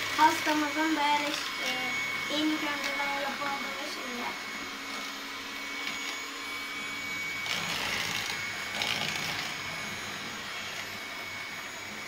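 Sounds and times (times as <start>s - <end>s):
electric mixer whisking: 0.0s - 12.0s.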